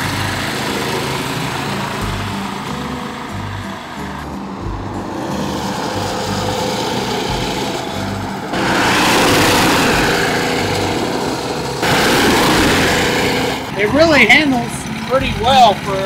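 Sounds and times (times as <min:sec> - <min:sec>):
go-kart engine running: 0:00.0 - 0:16.0
background music with bass line: 0:01.6 - 0:06.6, 0:07.2 - 0:16.0.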